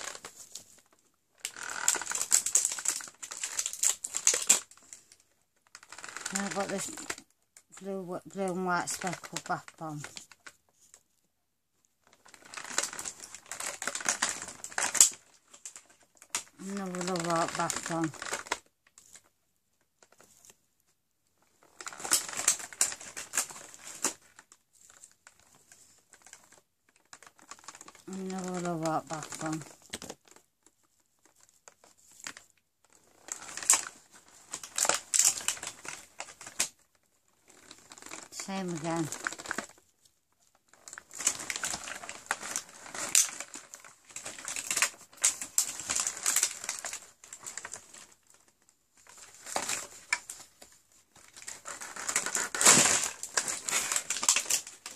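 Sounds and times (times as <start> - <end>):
packaging crinkling and rustling: 0.0 - 11.2, 11.8 - 54.9.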